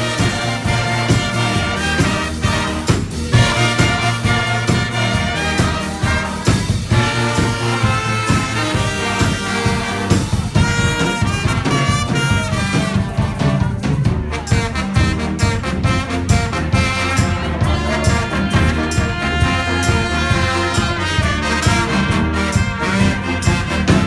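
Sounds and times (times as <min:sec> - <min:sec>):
brass band playing swing: 0:00.0 - 0:24.0.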